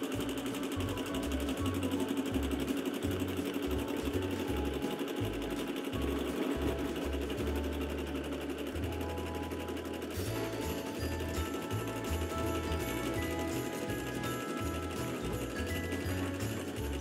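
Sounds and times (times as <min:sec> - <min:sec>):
sewing machine running: 0:00.0 - 0:17.0.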